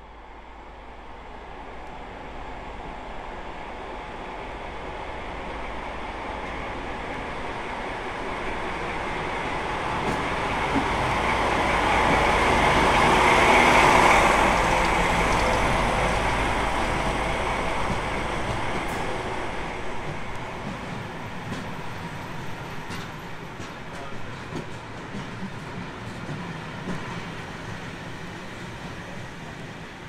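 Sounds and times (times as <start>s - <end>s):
diesel locomotive passing: 0.0s - 30.0s
train coaches rolling past: 0.0s - 30.0s.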